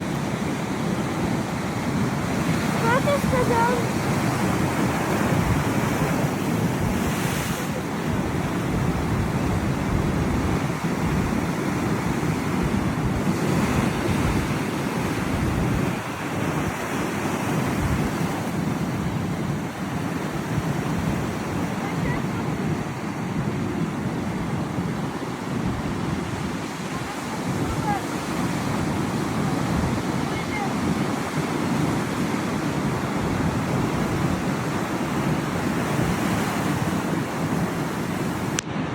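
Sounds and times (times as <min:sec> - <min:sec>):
surf breaking ashore: 0:00.0 - 0:38.9
wind buffeting microphone: 0:00.0 - 0:38.9.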